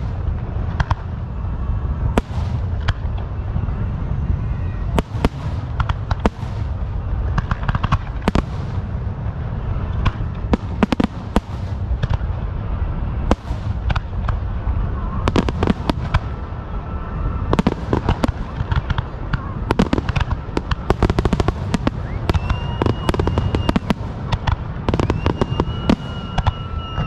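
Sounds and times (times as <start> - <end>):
fireworks bangs and pops: 0.0 - 1.3, 2.1 - 3.4, 4.9 - 12.5, 13.2 - 16.5, 17.4 - 27.0
crackling hiss: 0.0 - 27.0
steady low rumble: 0.0 - 27.0.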